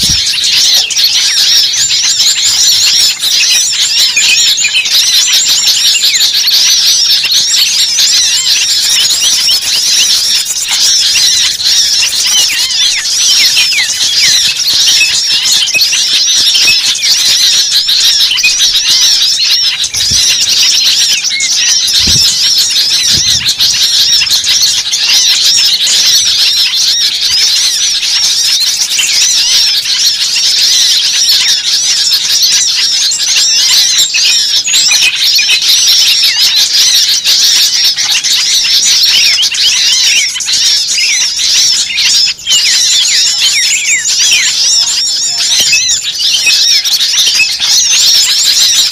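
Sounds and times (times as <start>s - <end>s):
birds chirping and squealing: 0.0s - 48.9s.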